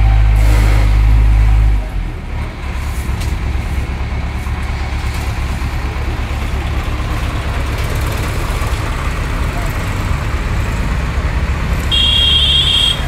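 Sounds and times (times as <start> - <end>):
heavy machinery engine humming: 0.0 - 13.0.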